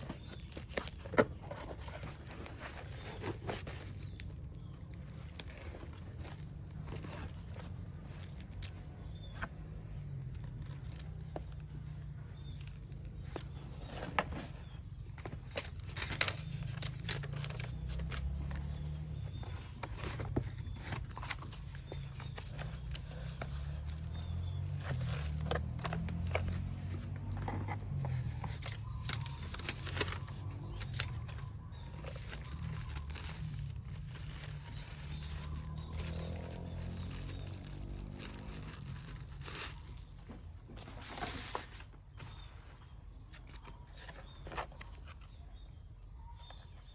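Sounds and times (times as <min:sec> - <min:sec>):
packaging crinkling and rustling: 0:00.0 - 0:09.6, 0:12.5 - 0:45.5.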